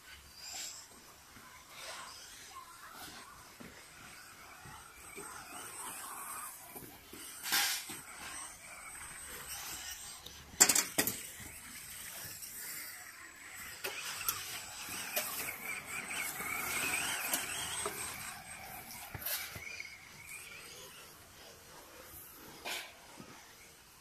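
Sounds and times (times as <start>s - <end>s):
rc car motor whine: 0.0s - 24.0s.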